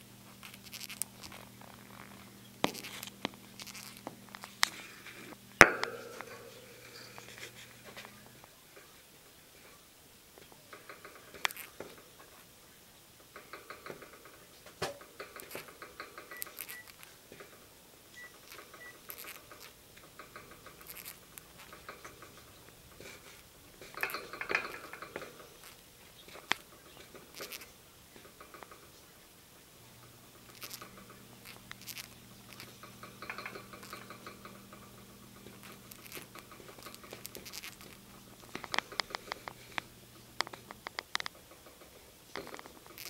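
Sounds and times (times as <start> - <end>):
lovebirds clicking and rattling: 0.0 - 43.0.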